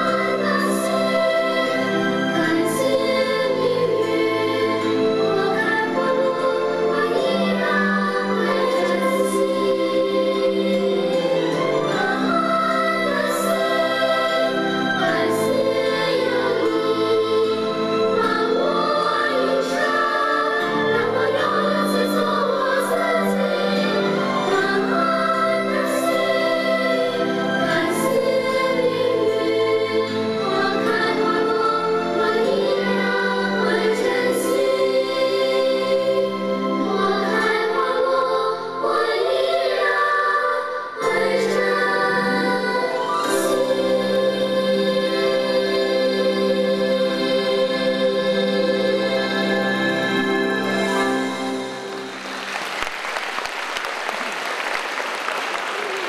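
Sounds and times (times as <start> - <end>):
instrumental accompaniment: 0.0 - 53.8
children's choir singing: 0.0 - 56.0.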